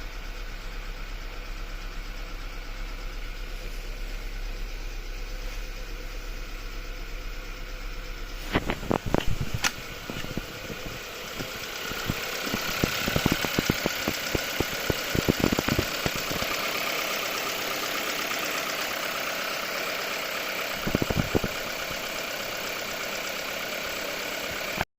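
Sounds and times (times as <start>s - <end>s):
car engine running: 0.0s - 24.8s.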